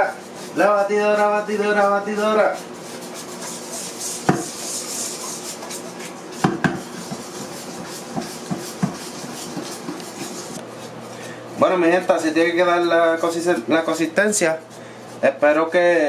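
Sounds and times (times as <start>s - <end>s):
whisk clinking against metal bowl: 0.0s - 15.7s
whisk scraping batter in bowl: 0.0s - 16.0s.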